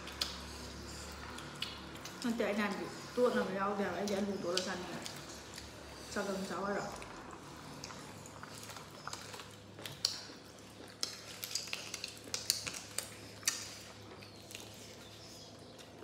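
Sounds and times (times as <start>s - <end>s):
chewing and lip-smacking: 0.0s - 16.0s
low steady hum: 0.0s - 16.0s.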